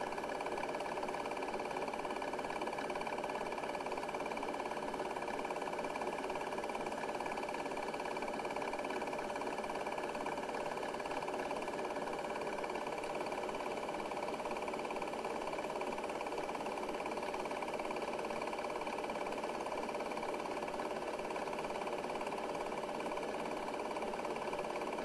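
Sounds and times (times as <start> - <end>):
film projector whirring and clattering: 0.0 - 25.0.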